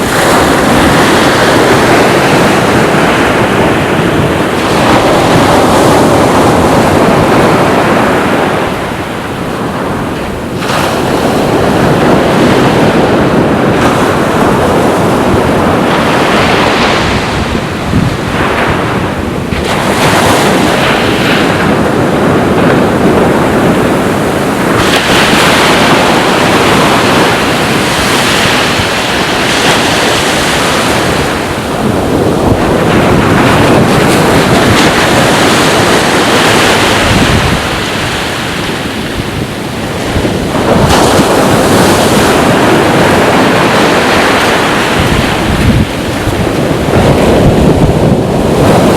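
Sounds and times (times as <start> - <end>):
sea waves breaking on beach: 0.0 - 48.9
wind buffeting microphone: 0.0 - 48.9.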